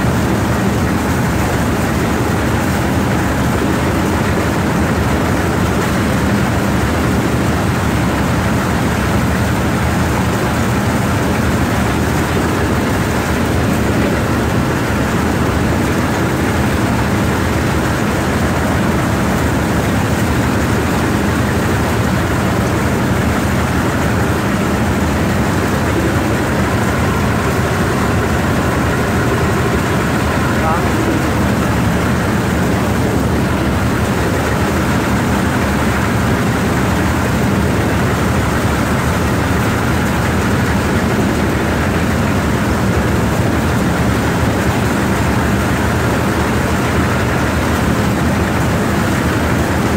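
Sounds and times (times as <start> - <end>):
rice thresher droning: 0.0 - 49.9.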